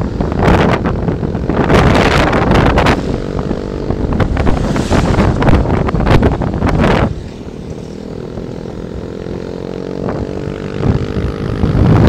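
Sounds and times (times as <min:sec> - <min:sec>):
scooter engine running: 0:00.0 - 0:12.0
wind noise on microphone: 0:00.0 - 0:12.0.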